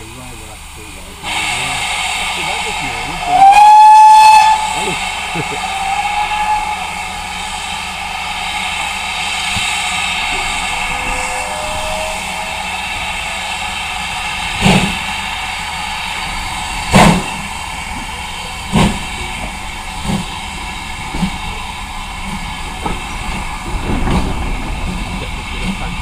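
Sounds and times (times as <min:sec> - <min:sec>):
steam hissing: 0:00.0 - 0:26.0
steam locomotive exhaust chuffs: 0:00.0 - 0:26.0.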